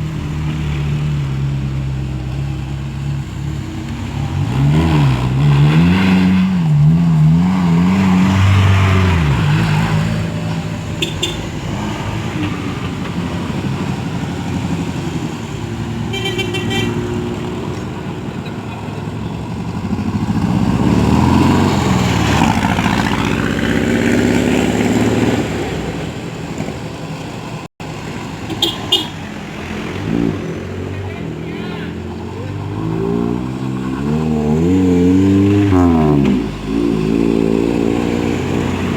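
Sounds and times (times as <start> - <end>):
vehicle engines revving: 0.0 - 38.9.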